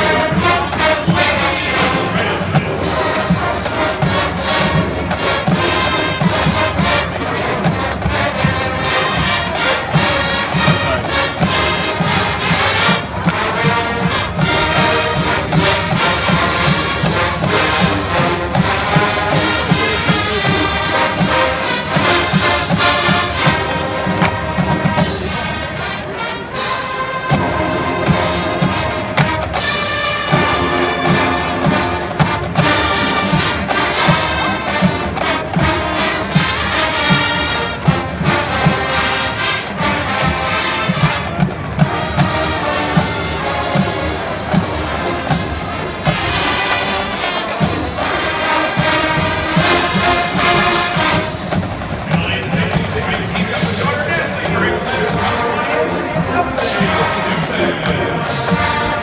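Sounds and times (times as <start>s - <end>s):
brass marching band playing: 0.0s - 59.0s.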